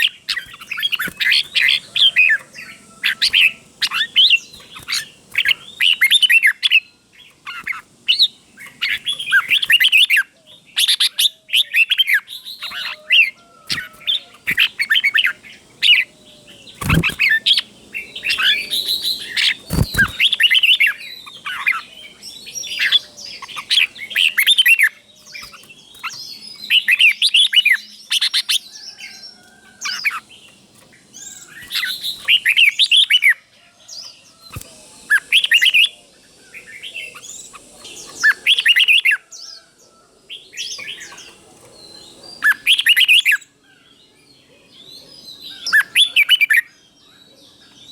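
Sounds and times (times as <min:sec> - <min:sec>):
bulbul singing: 0:00.0 - 0:39.6.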